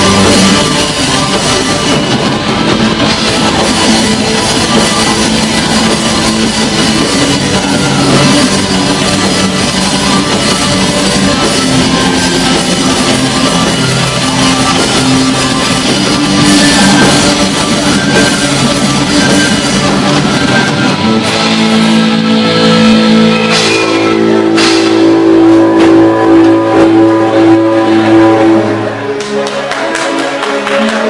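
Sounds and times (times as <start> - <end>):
fast drums: 0.0 - 28.8
distorted electric guitars: 0.0 - 31.0.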